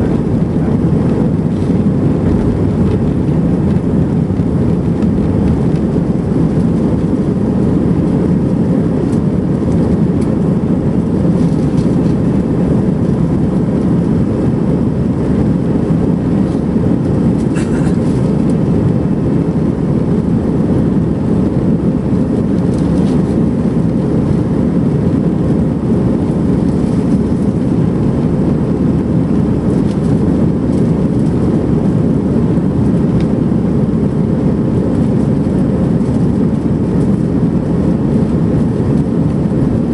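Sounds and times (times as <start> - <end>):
airliner cabin engine roar: 0.0 - 39.9.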